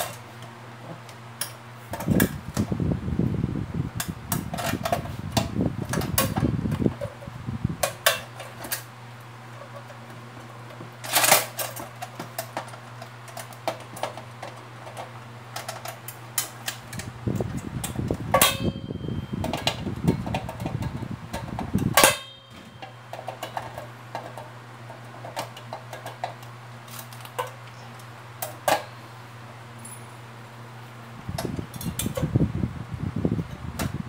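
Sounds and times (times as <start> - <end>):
steady fan hum: 0.0 - 34.0.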